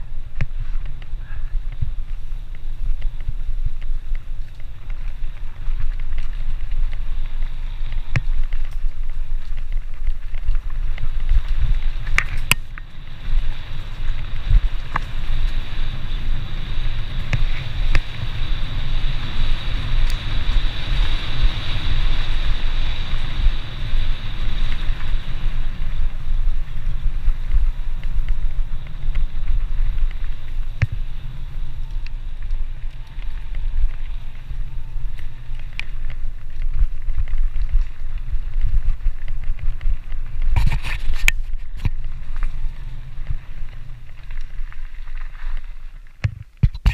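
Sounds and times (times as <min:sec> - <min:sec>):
bike rattling over bumps: 0:00.0 - 0:46.9
bike tyres on gravel trail: 0:00.0 - 0:46.9
wind buffeting microphone: 0:00.0 - 0:46.9.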